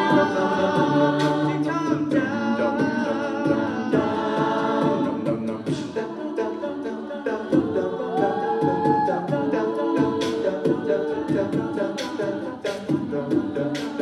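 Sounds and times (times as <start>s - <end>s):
steady percussive beat: 0.0s - 14.0s
voices singing in harmony: 0.0s - 14.0s.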